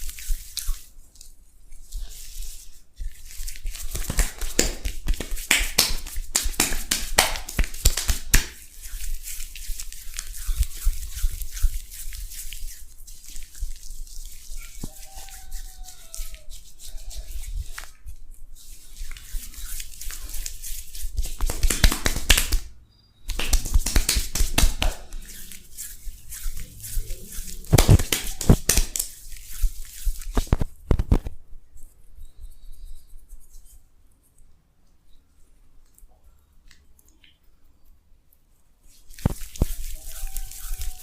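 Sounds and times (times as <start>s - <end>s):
hands rubbing a face: 0.0s - 22.7s, 23.3s - 34.4s, 38.8s - 41.0s.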